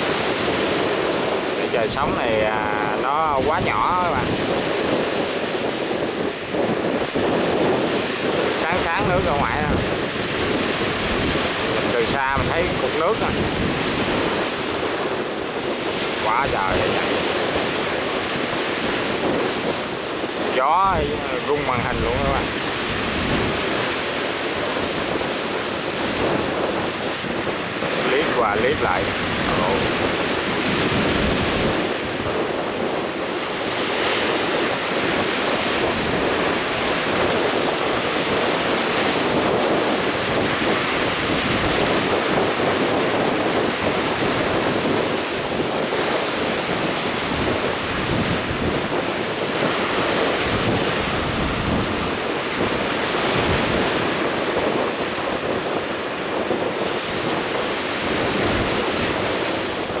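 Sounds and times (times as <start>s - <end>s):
rough sea waves rushing: 0.0s - 60.0s
wind buffeting microphone: 0.0s - 60.0s.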